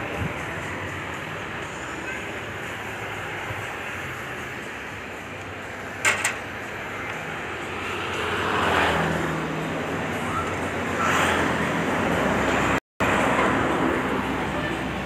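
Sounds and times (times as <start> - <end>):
road traffic rumble: 0.0 - 15.0
vehicles passing by: 0.0 - 15.0.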